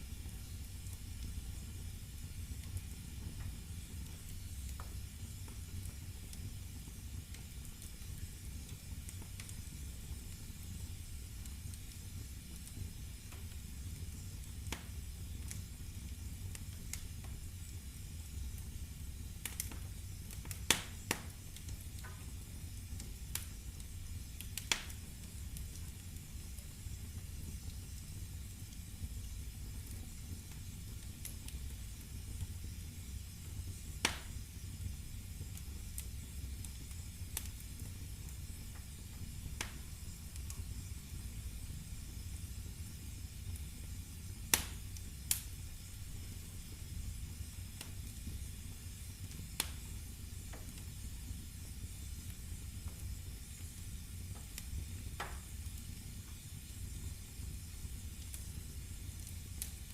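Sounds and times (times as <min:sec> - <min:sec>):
firewood crackling and popping: 0:00.0 - 0:59.9
flames rumbling and hissing: 0:00.0 - 0:59.9.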